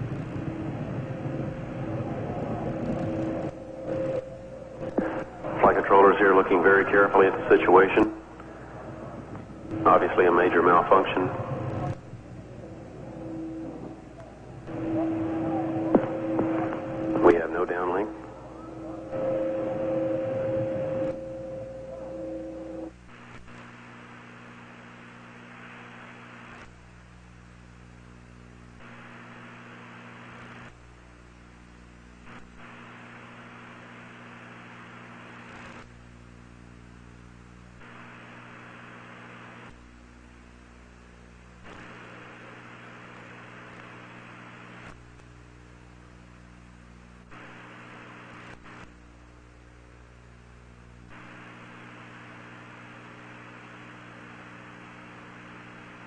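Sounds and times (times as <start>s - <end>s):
electrical hum: 0.0s - 56.0s
tape hiss: 0.0s - 56.0s.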